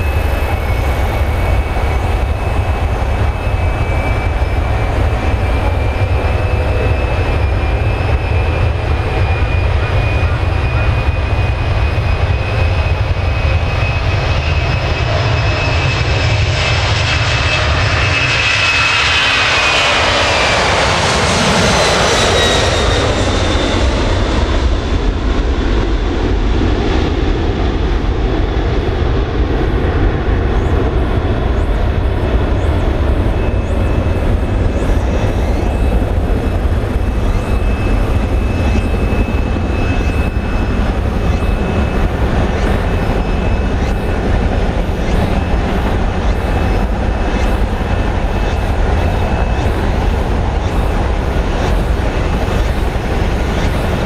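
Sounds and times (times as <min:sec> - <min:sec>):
jet engine rumble: 0:00.0 - 0:54.0.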